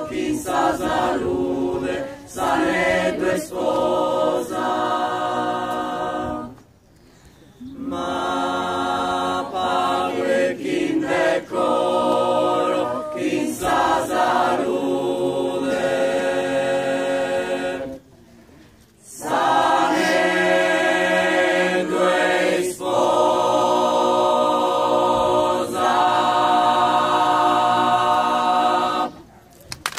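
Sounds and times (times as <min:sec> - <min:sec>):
choir singing: 0:00.0 - 0:06.7, 0:07.6 - 0:18.2, 0:19.1 - 0:29.3.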